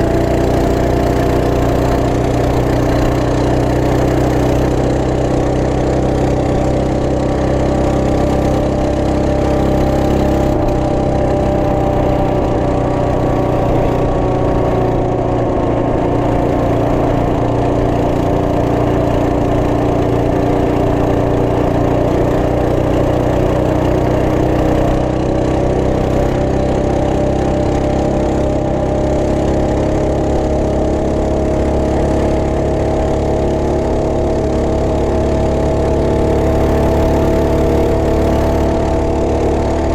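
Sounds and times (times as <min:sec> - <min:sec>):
minibike engine running: 0:00.0 - 0:39.9.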